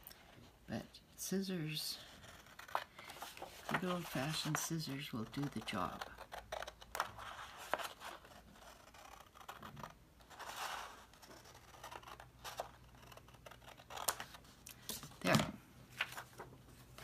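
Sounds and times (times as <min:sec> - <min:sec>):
paper rustling: 0:02.2 - 0:17.0.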